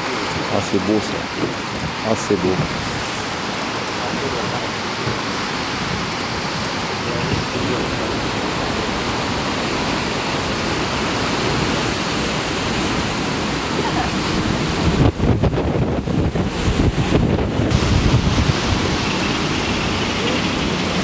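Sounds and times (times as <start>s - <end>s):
sea water rushing: 0.0s - 21.0s
wind around a boat: 0.0s - 21.0s.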